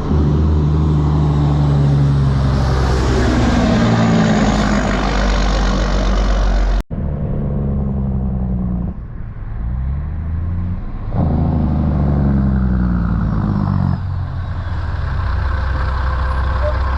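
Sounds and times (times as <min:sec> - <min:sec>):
diesel truck engine droning: 0:00.0 - 0:16.9.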